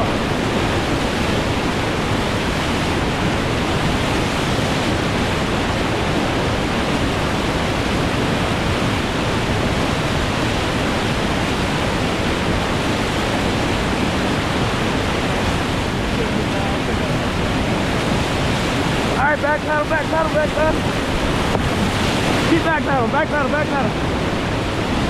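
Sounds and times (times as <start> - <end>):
whitewater rapids rushing: 0.0 - 25.0.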